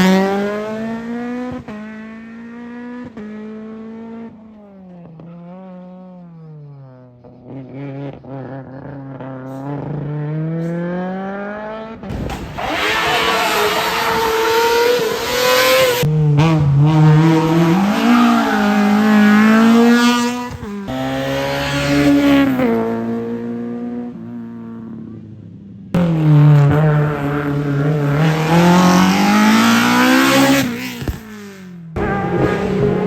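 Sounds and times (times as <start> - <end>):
race car engine accelerating: 0.0 - 25.0, 25.9 - 33.0.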